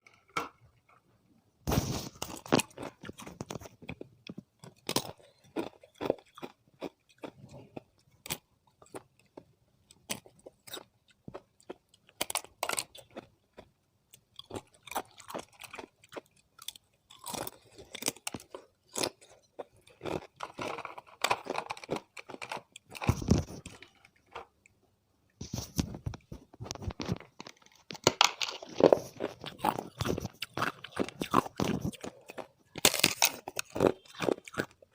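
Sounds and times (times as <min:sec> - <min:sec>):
ice being chewed: 0:01.7 - 0:24.6, 0:26.6 - 0:34.9.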